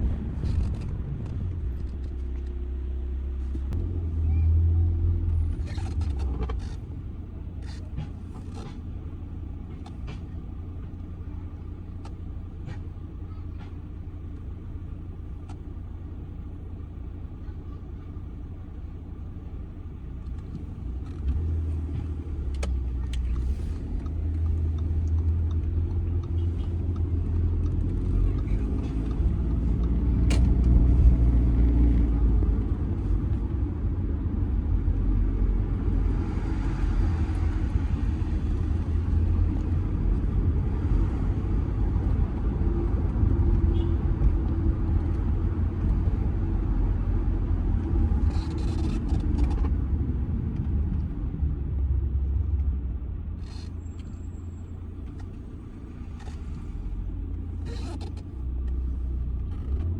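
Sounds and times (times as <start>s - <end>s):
diesel car engine driving: 0.0s - 59.9s
road rumble: 0.0s - 59.9s.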